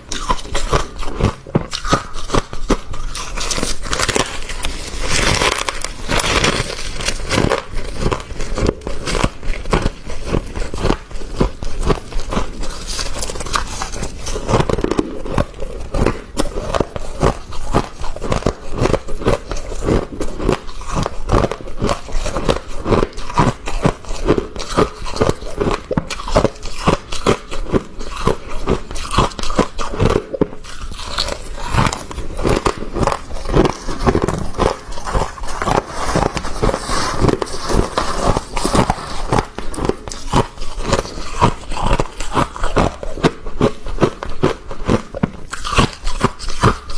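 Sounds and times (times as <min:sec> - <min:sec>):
freezer frost crunching and scraping: 0:00.0 - 0:46.9.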